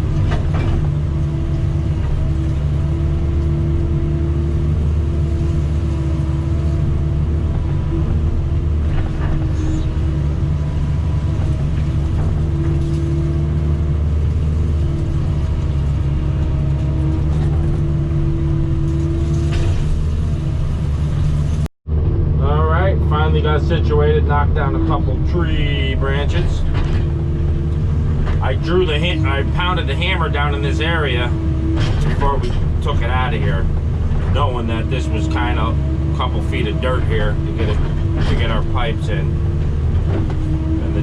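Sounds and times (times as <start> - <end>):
heavy diesel engine droning: 0.0 - 41.0.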